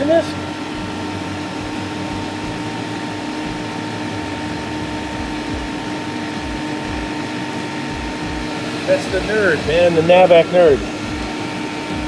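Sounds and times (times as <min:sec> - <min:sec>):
refrigerant recovery machine humming: 0:00.0 - 0:12.0.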